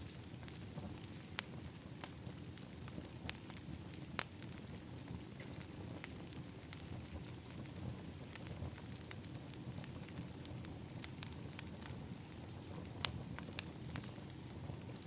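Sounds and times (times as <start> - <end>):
fire crackling and popping: 0.0 - 15.0
low rush of flames: 0.0 - 15.0.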